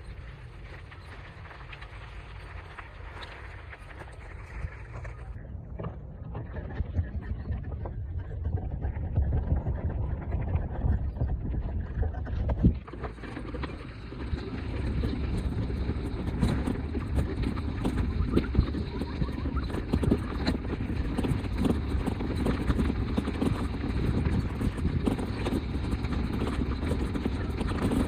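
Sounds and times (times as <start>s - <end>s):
bicycle rumbling over rough street: 0.0s - 28.0s.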